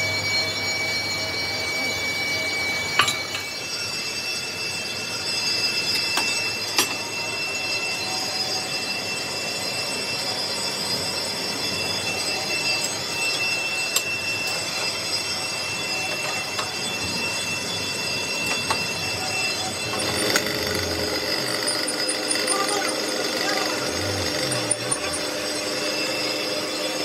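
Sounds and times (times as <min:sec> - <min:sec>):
machinery metallic whine: 0:00.0 - 0:27.0.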